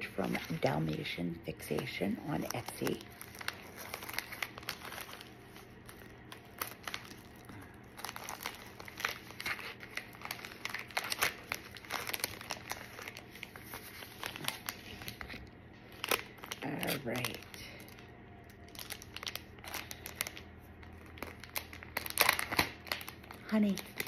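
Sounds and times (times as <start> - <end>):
plastic mailer crinkling: 0.0 - 24.0.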